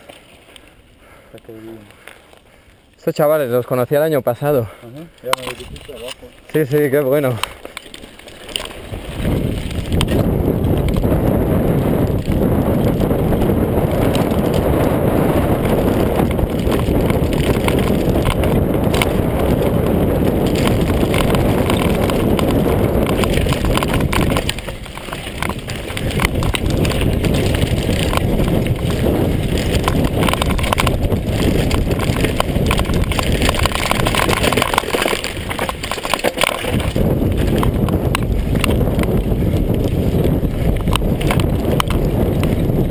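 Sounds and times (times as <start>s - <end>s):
bike rattling: 0.0s - 42.9s
tyres crunching over gravel: 0.0s - 42.9s
wind buffeting microphone: 3.3s - 7.7s, 8.3s - 42.9s.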